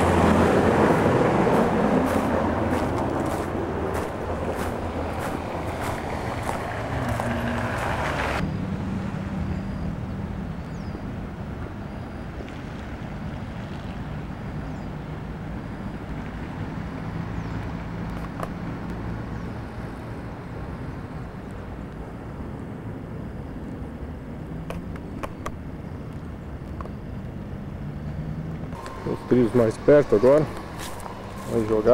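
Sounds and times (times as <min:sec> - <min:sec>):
distant road traffic: 0:00.0 - 0:31.9.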